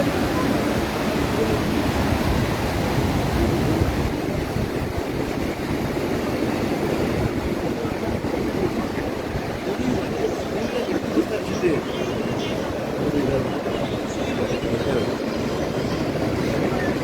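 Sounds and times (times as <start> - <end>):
surf breaking on beach: 0.0 - 17.0
wind on microphone: 0.0 - 17.0.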